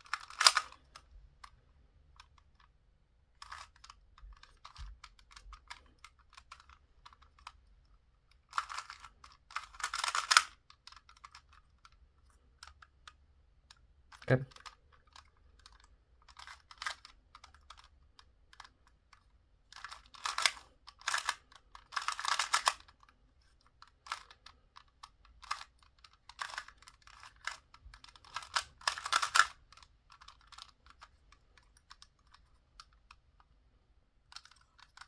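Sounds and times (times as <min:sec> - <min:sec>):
plastic puzzle cube clicking: 0:00.0 - 0:02.8, 0:03.4 - 0:33.6, 0:34.3 - 0:35.0.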